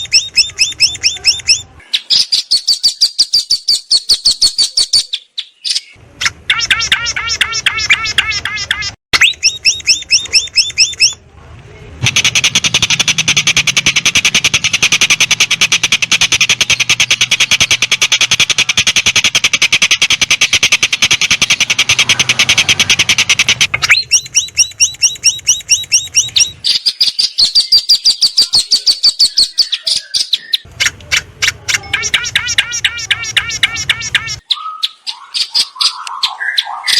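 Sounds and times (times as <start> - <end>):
bird singing harsh rattling notes: 0.0 - 11.2, 12.0 - 36.9.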